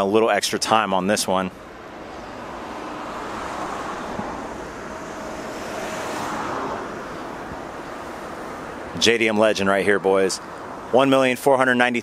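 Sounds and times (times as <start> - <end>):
steady rushing outdoor noise: 0.0 - 12.0.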